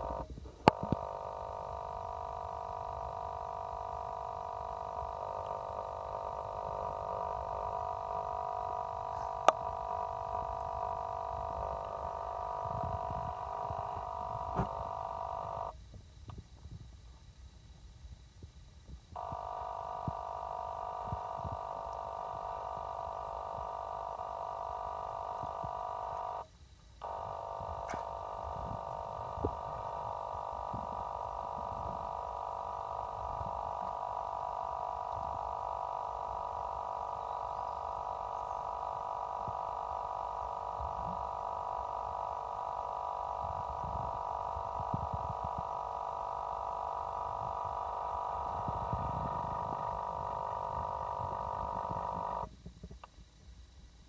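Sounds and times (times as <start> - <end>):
droning hum of several tones: 0.0 - 53.4.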